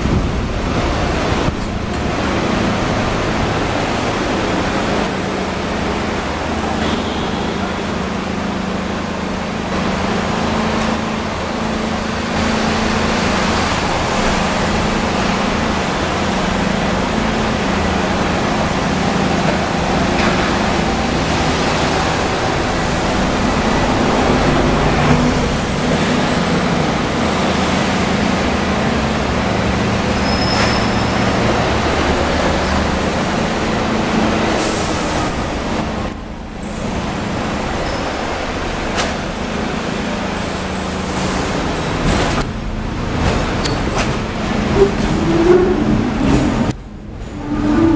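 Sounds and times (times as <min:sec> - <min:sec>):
tram motor hum: 0:00.0 - 0:47.9.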